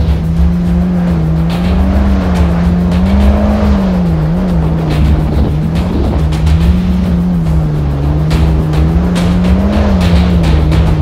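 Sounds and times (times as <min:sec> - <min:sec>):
hull spray: 0:00.0 - 0:11.0
jet ski engine running: 0:00.0 - 0:11.0
wind rumble: 0:00.0 - 0:11.0.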